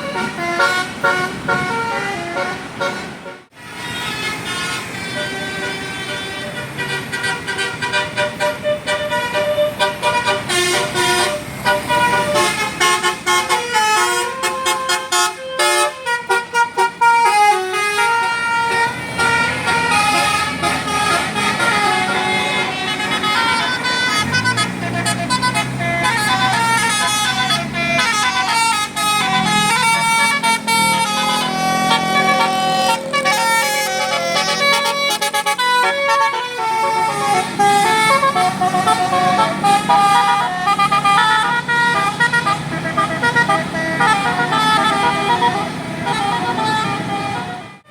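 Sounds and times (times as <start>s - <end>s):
bus musical horn playing a tune: 0.0s - 47.9s.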